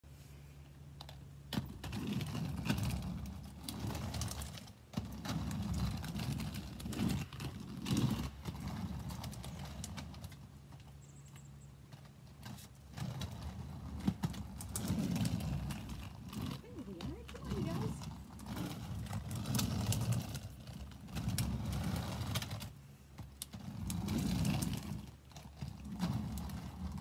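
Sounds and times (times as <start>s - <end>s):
roller skates rolling: 1.0s - 27.0s
skate clacks and knocks: 1.0s - 27.0s.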